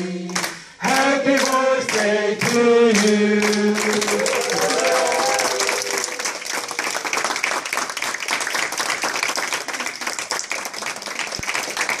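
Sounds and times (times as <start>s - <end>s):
people clapping: 0.2s - 12.0s.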